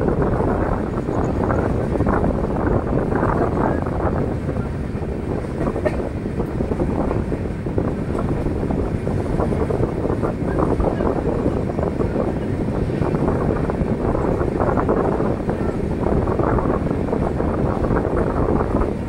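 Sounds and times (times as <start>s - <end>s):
passenger train rumbling: 0.0s - 19.0s
wind buffeting microphone: 0.0s - 19.0s.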